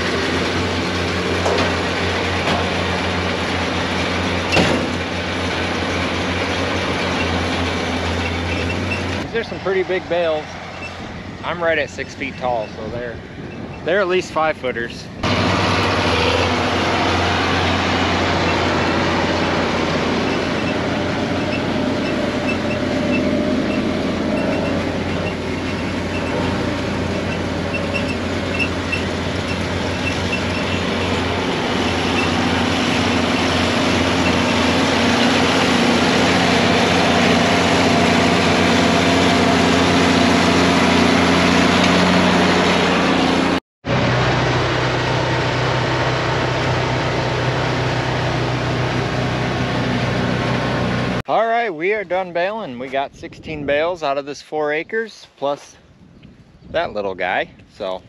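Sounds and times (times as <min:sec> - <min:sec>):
vehicle engines droning: 0:00.0 - 0:53.6.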